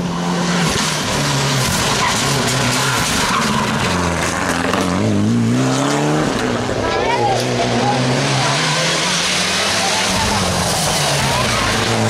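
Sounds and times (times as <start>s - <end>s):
rally car engine revving: 0.0s - 12.0s
tyres skidding on tarmac: 0.0s - 12.0s.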